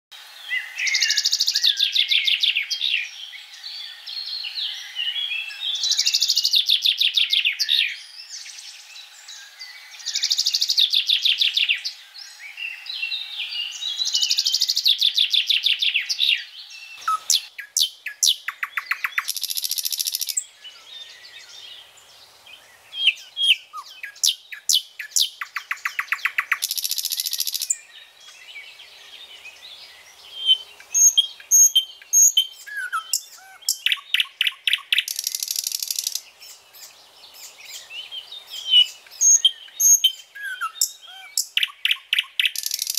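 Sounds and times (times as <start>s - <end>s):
birds chirping and calling: 0.4s - 42.9s.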